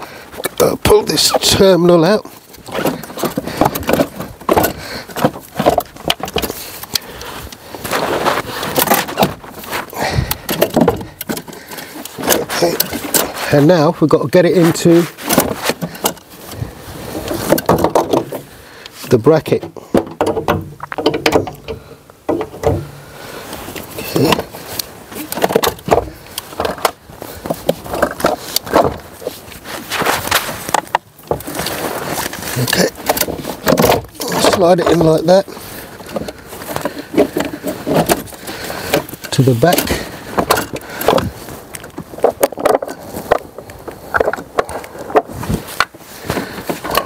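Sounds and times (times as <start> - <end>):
scraping: 0.0 - 47.0
hands handling battery cable: 2.3 - 13.5, 20.2 - 47.0.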